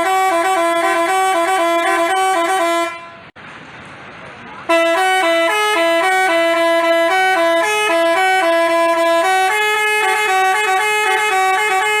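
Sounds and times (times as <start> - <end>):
multi-tone bus horn melody: 0.0 - 3.4, 4.7 - 12.0.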